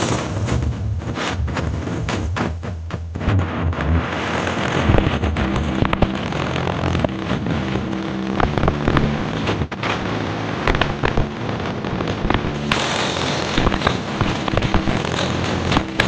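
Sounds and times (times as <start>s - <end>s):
distorted bass-heavy music over loudspeakers: 0.0s - 16.0s.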